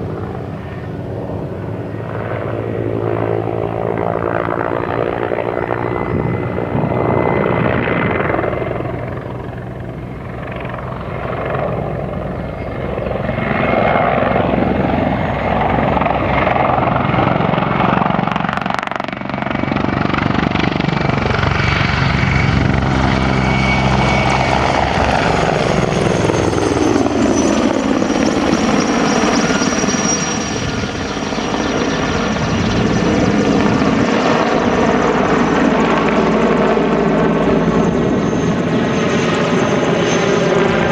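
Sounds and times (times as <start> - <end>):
helicopter rotor beat: 0.0 - 40.9
turbine engine whine: 0.0 - 40.9.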